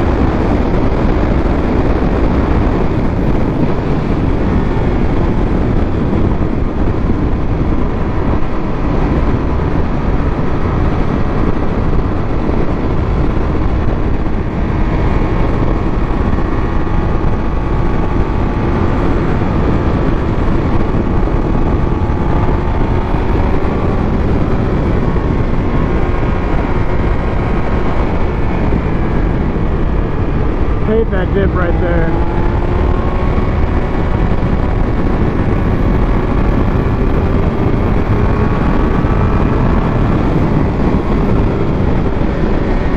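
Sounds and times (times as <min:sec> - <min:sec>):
motorcycle engine running: 0:00.0 - 0:42.9
wind rush over microphone: 0:00.0 - 0:42.9.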